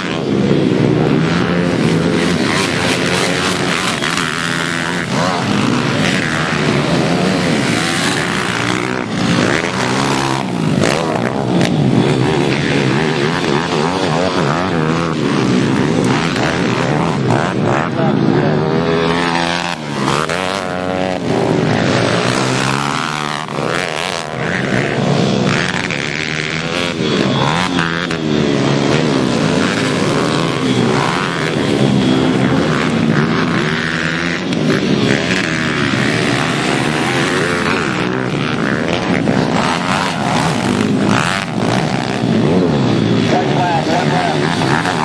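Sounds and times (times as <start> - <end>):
pit bike engines revving: 0.0 - 45.0.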